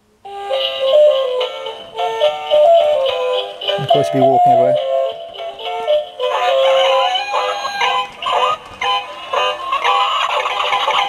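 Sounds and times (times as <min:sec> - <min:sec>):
tinny electronic toy song: 0:00.3 - 0:11.0.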